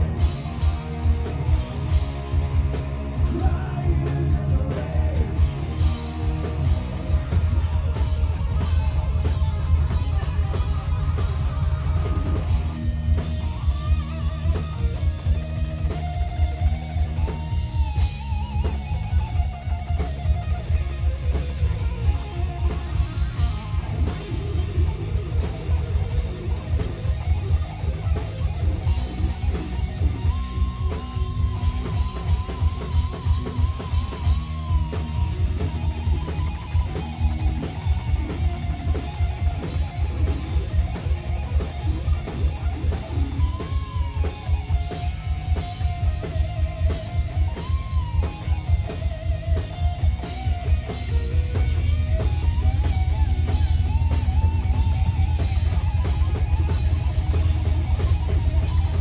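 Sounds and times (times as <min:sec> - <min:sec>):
electric guitar bending notes: 0:00.0 - 0:59.0
live rock band playing: 0:00.0 - 0:59.0.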